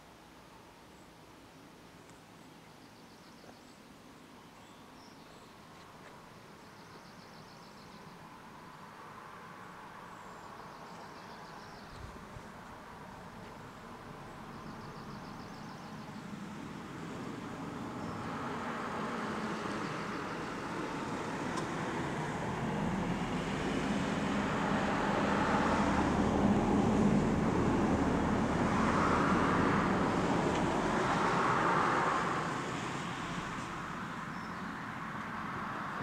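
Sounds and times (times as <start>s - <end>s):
vehicle engine and tyre noise: 5.2s - 36.0s.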